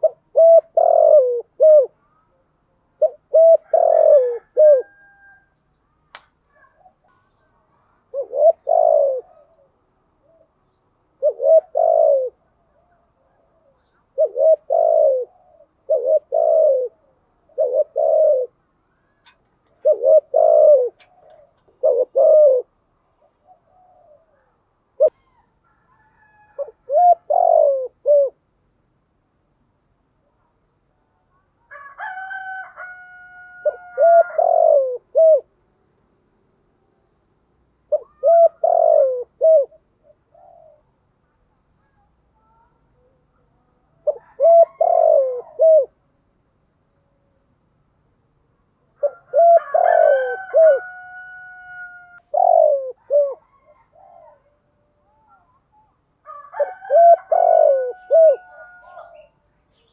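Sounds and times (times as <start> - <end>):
dove cooing: 0.0 - 5.5, 6.5 - 25.5, 26.1 - 28.5, 31.8 - 35.6, 37.8 - 41.1, 41.8 - 46.0, 48.9 - 59.9.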